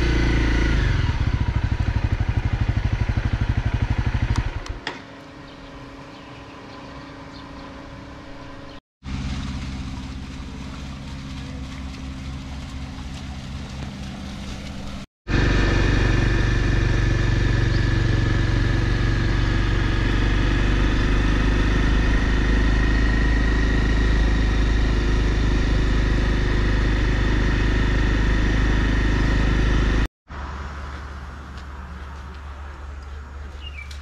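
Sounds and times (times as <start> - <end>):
motorcycle engine running: 0.0 - 31.1.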